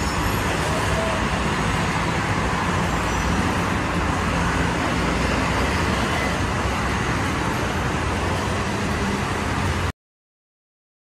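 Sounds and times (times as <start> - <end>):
road traffic rumble: 0.0 - 9.9.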